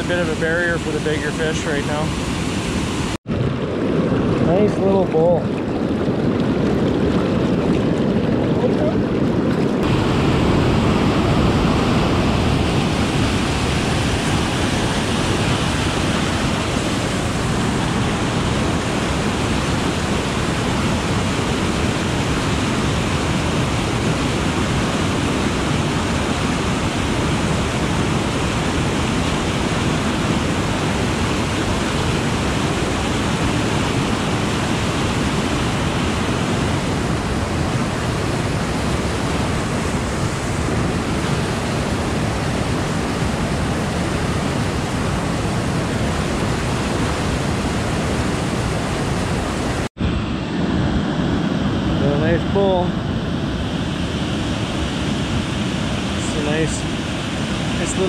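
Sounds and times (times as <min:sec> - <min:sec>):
waterfall rushing: 0:00.0 - 0:03.2, 0:09.8 - 0:52.8, 0:53.7 - 0:58.0.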